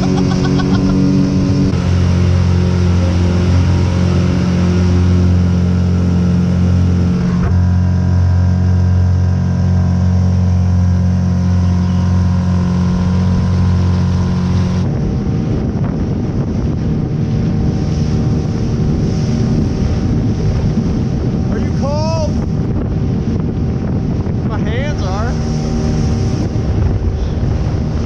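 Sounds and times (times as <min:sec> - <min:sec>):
boat motor running: 0:00.0 - 0:28.0
water noise: 0:00.0 - 0:28.0
wind on microphone: 0:00.0 - 0:28.0.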